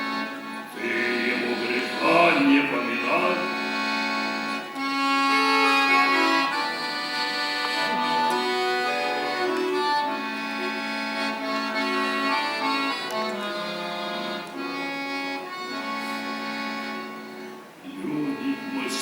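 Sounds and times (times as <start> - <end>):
accordion playing: 0.0 - 19.0.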